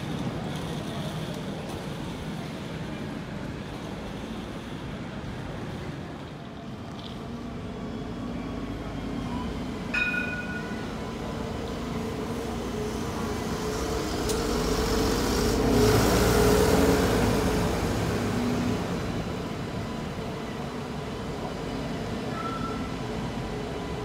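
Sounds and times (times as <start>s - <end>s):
tram motor hum: 0.0s - 24.0s
tram passing: 0.0s - 24.0s.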